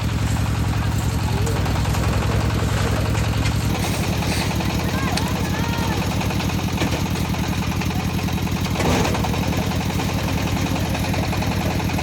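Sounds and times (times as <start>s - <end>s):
concrete mixer engine chugging: 0.0s - 12.0s.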